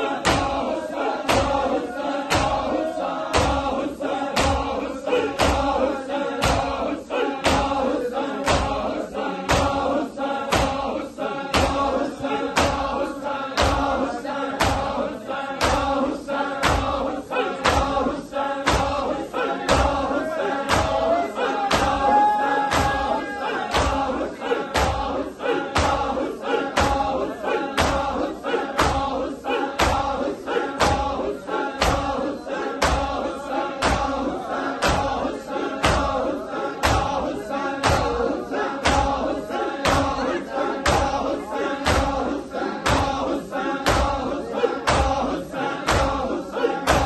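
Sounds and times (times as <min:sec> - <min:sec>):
chanted lament: 0:00.0 - 0:47.0
hands striking chests in unison: 0:00.0 - 0:47.0.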